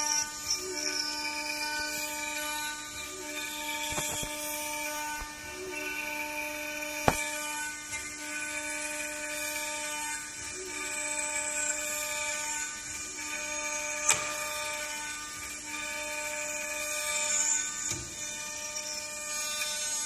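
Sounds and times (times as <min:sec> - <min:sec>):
router bit cutting wood: 0:00.0 - 0:20.0
router spindle whine: 0:00.0 - 0:20.0.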